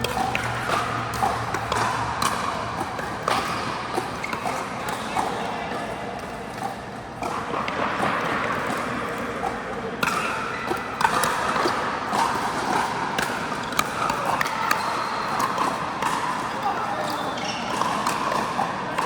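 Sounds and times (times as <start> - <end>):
background din of hall: 0.0 - 19.0.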